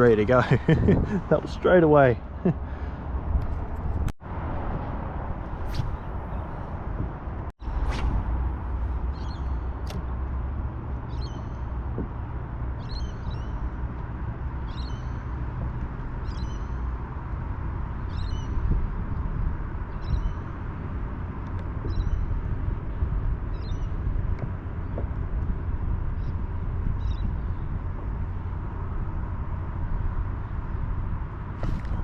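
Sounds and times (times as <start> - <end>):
low rumble: 2.9 - 32.0.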